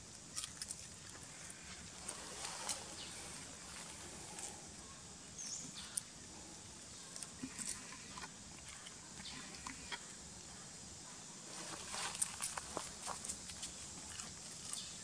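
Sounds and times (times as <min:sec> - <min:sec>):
outdoor ambience: 0:00.0 - 0:15.0
monkeys crunching food: 0:00.3 - 0:04.8, 0:05.4 - 0:10.3, 0:12.0 - 0:15.0.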